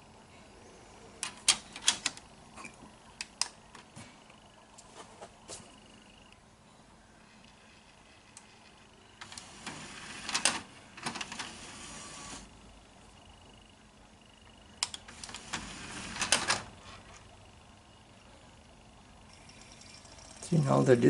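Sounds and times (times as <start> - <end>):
disc tray whirring and clicking: 1.0 - 21.0.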